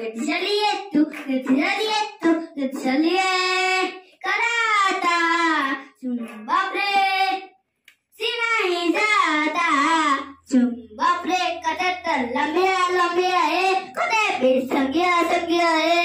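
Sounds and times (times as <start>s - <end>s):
boy singing: 0.0s - 7.5s, 8.1s - 16.0s.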